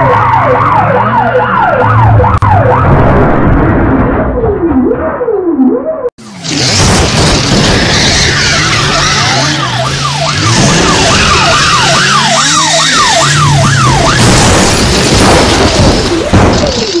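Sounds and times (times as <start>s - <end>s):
police siren: 0.0s - 6.1s, 7.2s - 17.0s.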